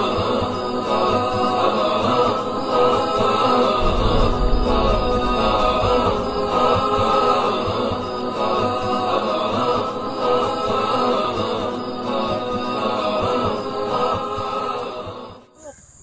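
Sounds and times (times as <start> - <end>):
voices chanting long notes: 0.0 - 15.6.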